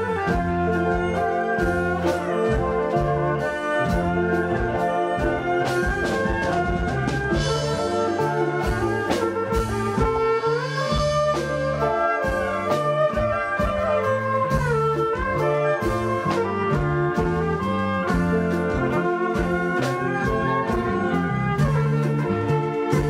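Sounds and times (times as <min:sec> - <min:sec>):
brass horns long sliding notes: 0:00.0 - 0:23.0
drum kit steady beat: 0:00.0 - 0:23.0.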